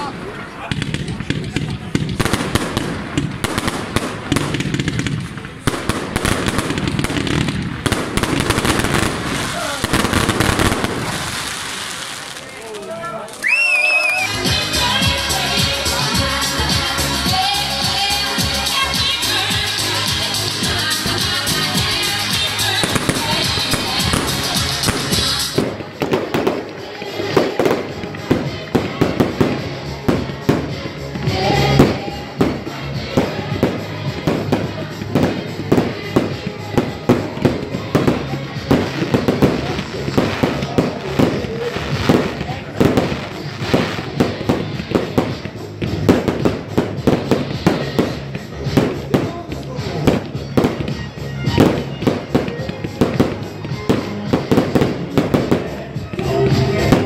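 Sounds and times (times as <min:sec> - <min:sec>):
fireworks bursting bangs: 0:00.0 - 0:57.0
music: 0:00.0 - 0:57.0.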